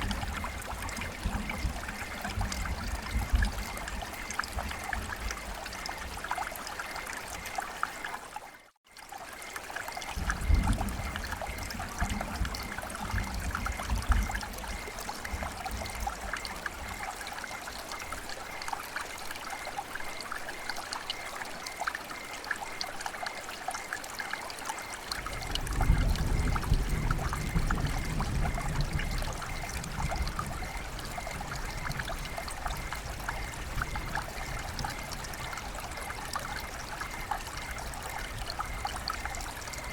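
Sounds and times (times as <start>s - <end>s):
flowing water: 0.0s - 39.9s
rain patter: 0.0s - 39.9s.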